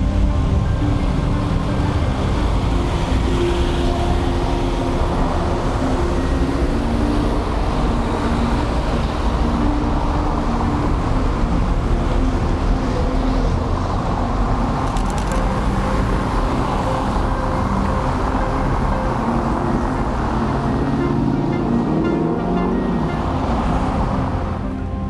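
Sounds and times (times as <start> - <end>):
traffic rumbling: 0.0 - 25.0.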